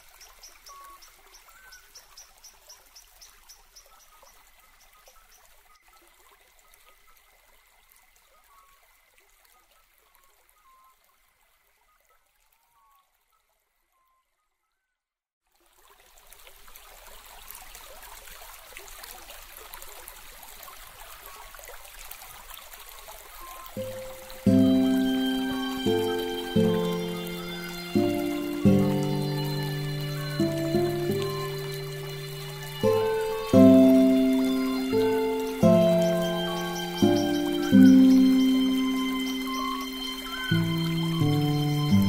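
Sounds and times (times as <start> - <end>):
trickling water-like hiss: 0.0 - 11.9, 15.5 - 42.0.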